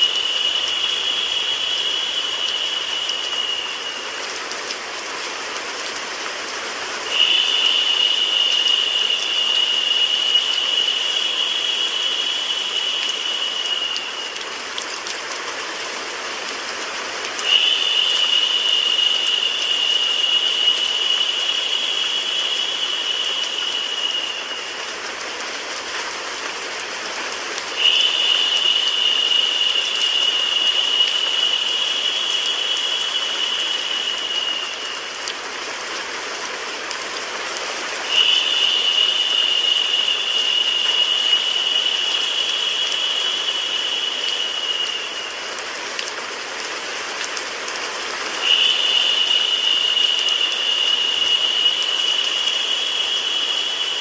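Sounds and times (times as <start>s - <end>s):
rain: 0.0s - 54.0s
white noise hiss: 0.0s - 54.0s.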